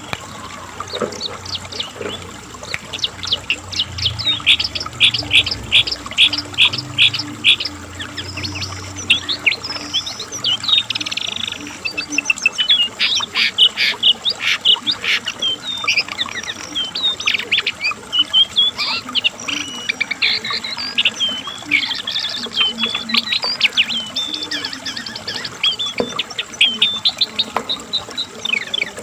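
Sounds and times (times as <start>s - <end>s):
bird singing: 0.0s - 29.0s.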